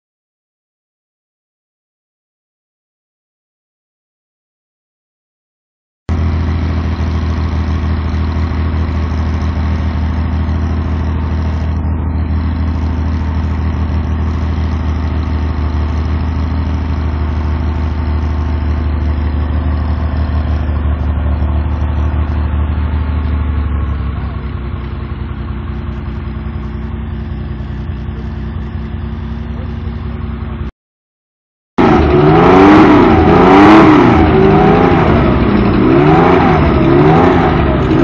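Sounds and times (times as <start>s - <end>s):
car engine idling loudly: 6.1s - 30.7s, 31.8s - 38.0s.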